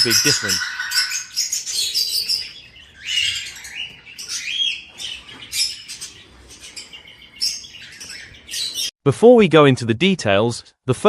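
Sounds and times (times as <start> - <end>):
budgies chirping and chattering: 0.0 - 8.9.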